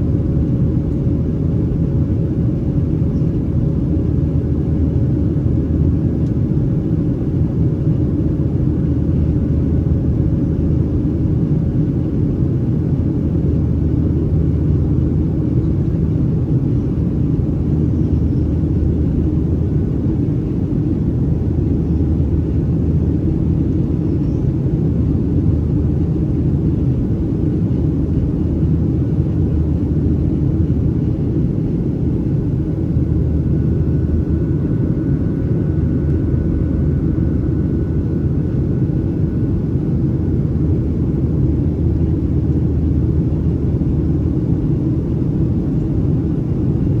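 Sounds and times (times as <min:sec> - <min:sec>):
airplane engines and airflow rumble: 0:00.0 - 0:47.0
faint steady hum: 0:00.0 - 0:47.0.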